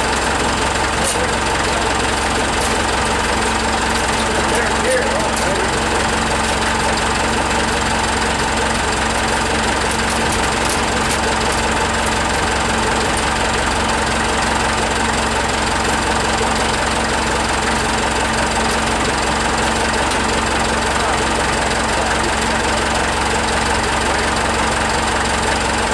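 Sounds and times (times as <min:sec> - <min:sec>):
engine idling: 0:00.0 - 0:25.9.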